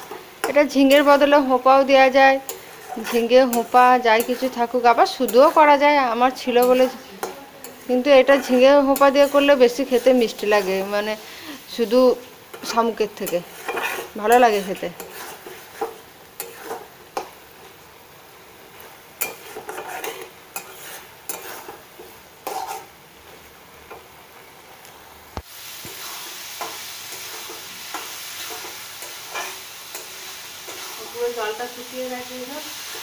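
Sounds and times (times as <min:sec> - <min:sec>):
metal spatula scraping a pan: 0:00.0 - 0:17.4, 0:19.2 - 0:23.0, 0:25.8 - 0:33.0
food sizzling: 0:00.0 - 0:33.0.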